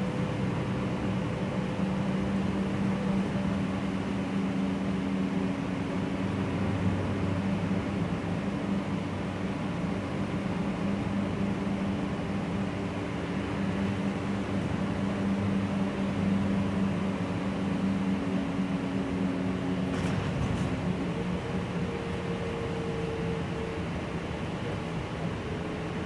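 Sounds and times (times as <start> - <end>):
bus engine and drivetrain hum: 0.0 - 26.0
road noise: 0.0 - 26.0.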